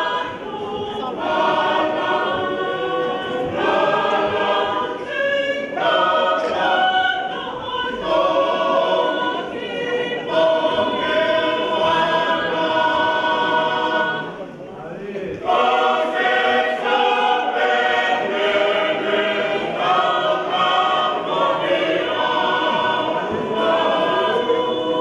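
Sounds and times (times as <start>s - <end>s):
choir singing a hymn: 0.0s - 14.7s, 15.4s - 25.0s.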